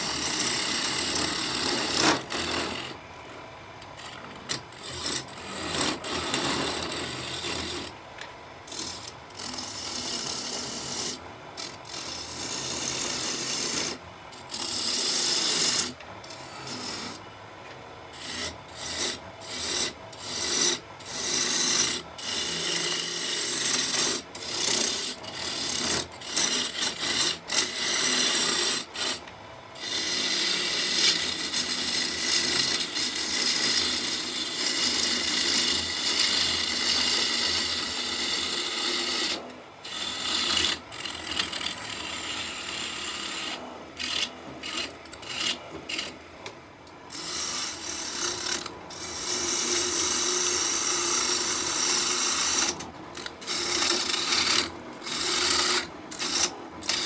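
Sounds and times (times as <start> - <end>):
lathe gouge cutting wood: 0.0 - 3.0, 4.0 - 7.9, 8.7 - 17.2, 18.1 - 29.2, 29.8 - 46.2, 47.1 - 57.0.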